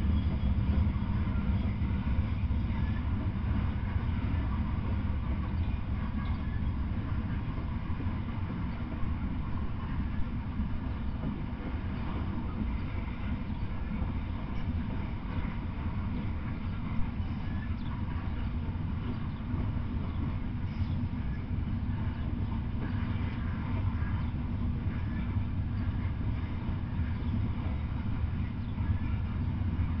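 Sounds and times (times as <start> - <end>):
train wheels rumbling on rail joints: 0.0 - 30.0.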